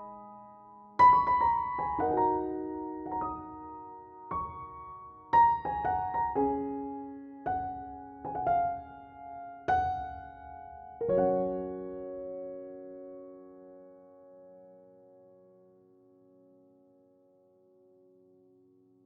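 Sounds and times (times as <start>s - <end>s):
gentle piano music: 0.0s - 18.7s.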